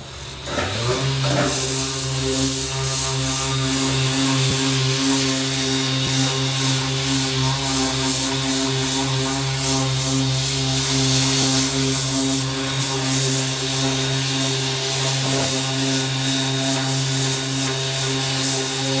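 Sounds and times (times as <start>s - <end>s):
orbital sander grinding metal: 0.0s - 19.0s.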